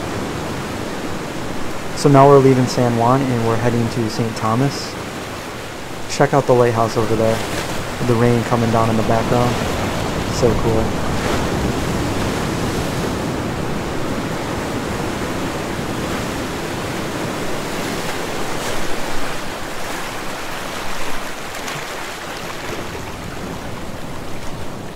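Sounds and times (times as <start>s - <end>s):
wind and sea rushing: 0.0s - 24.9s.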